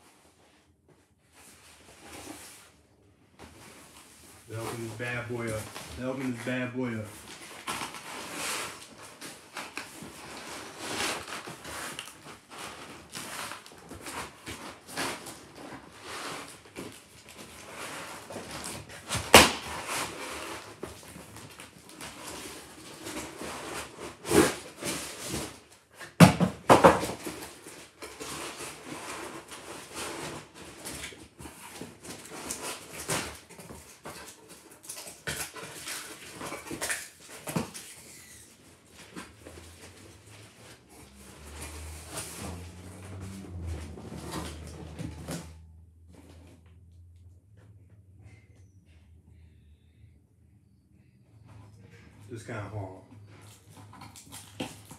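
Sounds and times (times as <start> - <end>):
cardboard and plastic rustling: 0.0 - 47.7, 51.5 - 54.9.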